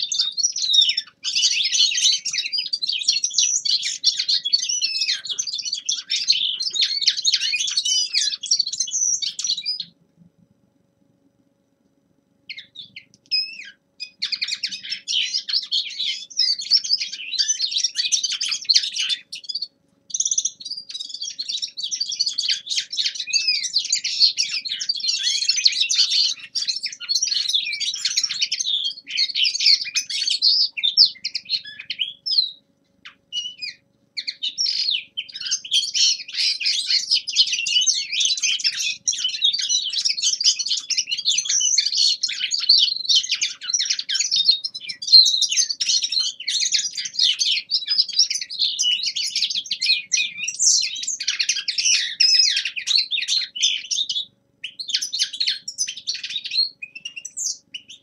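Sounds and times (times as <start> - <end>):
bird twittering warble: 0.0 - 10.0, 12.4 - 58.0.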